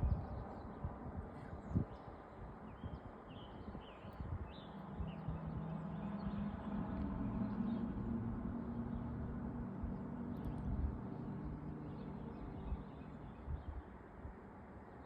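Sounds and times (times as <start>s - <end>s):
wind buffeting microphone: 0.0s - 14.5s.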